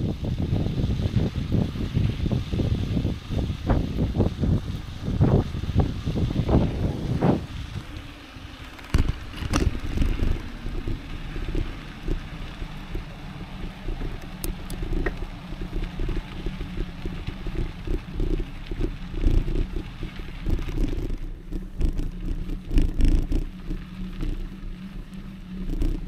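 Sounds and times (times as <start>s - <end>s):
bike rattling over bumps: 0.0s - 26.0s
bike tyres rumbling on gravel: 0.0s - 26.0s
wind on microphone: 0.0s - 26.0s.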